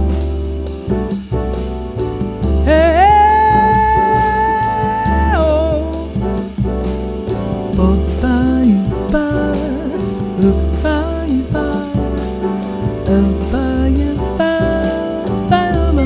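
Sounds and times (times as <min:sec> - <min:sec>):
deep bass: 0:00.0 - 0:16.0
drums: 0:00.0 - 0:16.0
jazz ensemble playing: 0:00.0 - 0:16.0.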